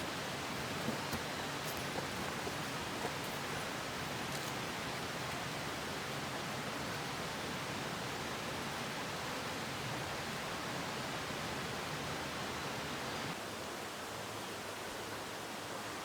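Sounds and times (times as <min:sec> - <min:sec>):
stream rushing water: 0:00.0 - 0:16.0.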